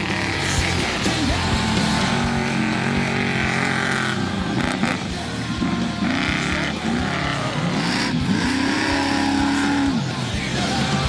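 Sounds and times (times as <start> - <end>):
background music with beat: 0.0 - 11.0
engine revving: 0.0 - 11.0.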